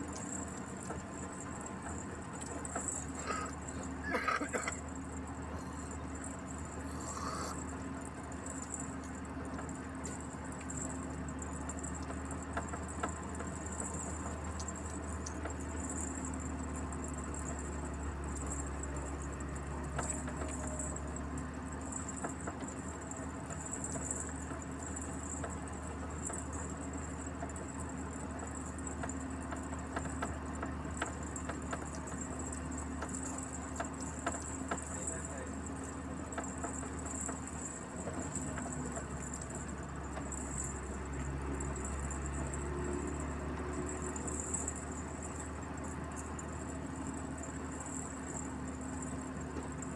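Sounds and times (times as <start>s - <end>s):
light rattles and ticks: 0.0s - 49.9s
truck engine and road drone: 0.0s - 49.9s.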